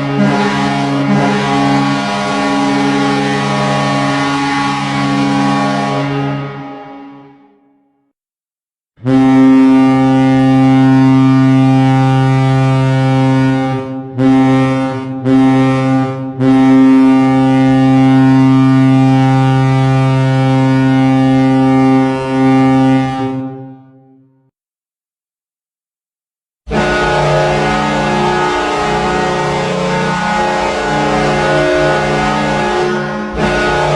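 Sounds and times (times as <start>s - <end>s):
goal horn blast: 0.0s - 7.7s, 9.0s - 24.2s, 26.7s - 33.9s.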